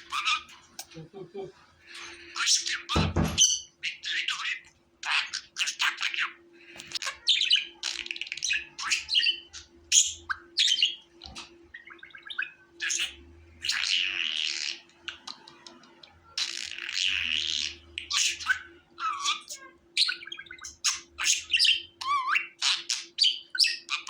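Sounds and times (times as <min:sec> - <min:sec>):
budgerigars chirping and warbling: 0:00.0 - 0:01.0, 0:01.8 - 0:24.0
faint steady hum: 0:00.0 - 0:24.0.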